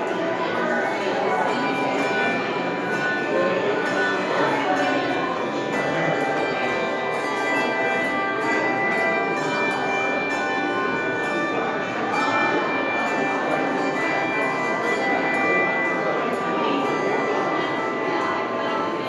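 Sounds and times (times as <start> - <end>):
handbells ringing: 0.0 - 19.0.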